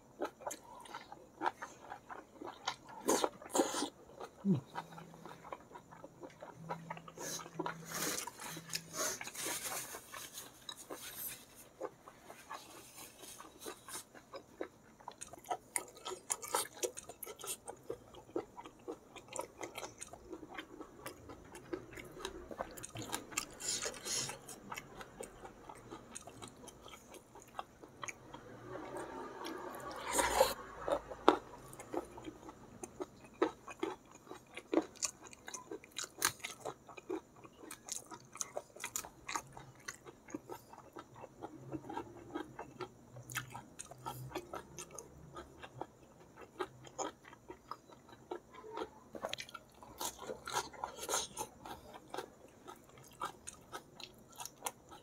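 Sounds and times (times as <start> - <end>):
chewing with mouth clicks: 0.1 - 55.0.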